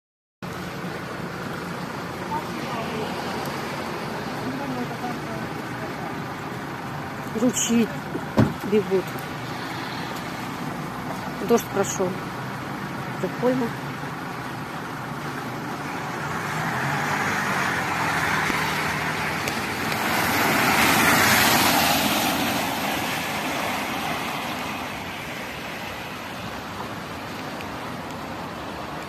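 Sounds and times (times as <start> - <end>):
cars passing on wet road: 0.4 - 29.0.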